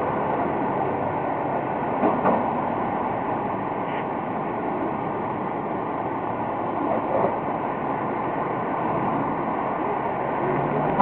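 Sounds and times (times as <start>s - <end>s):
fire engine and street traffic: 0.0s - 11.0s.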